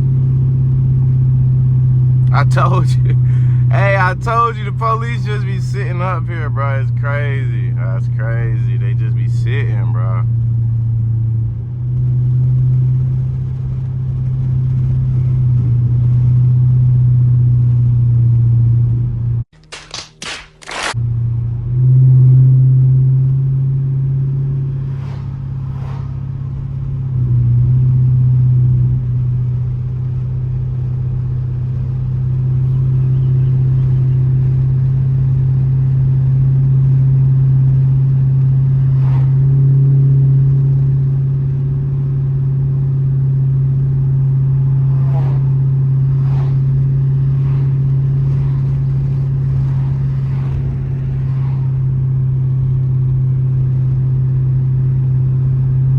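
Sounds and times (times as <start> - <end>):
car exhaust droning: 0.0 - 19.4, 20.9 - 55.9.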